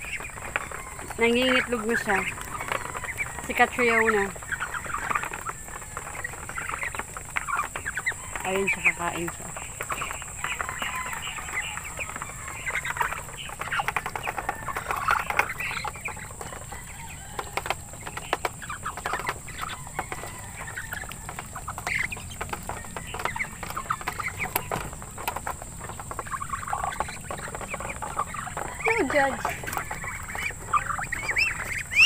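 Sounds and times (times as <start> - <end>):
bills pecking at metal tray: 0.0 - 32.0.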